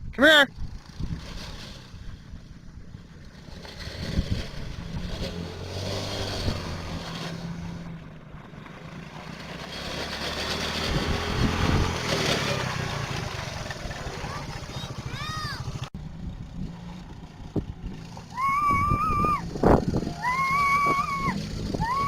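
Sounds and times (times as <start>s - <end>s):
small atv engine running: 0.5s - 22.0s.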